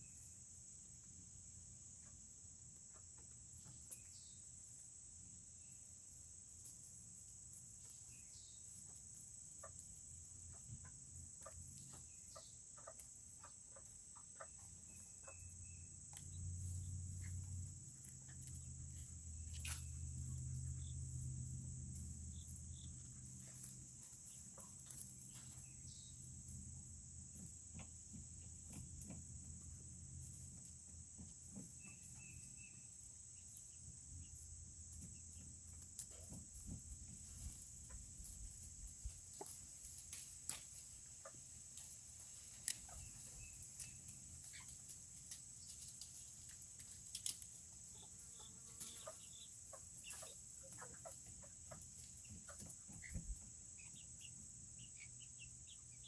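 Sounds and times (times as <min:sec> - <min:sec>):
crickets chirring: 0:00.0 - 0:56.0
small chickens chirping softly: 0:00.0 - 0:56.0.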